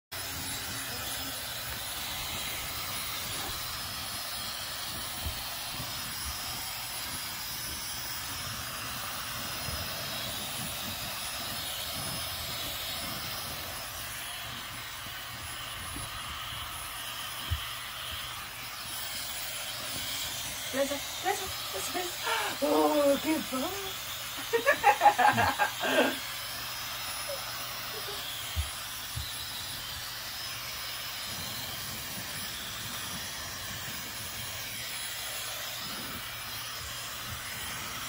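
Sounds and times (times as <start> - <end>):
hair dryer running: 0.1 - 38.0.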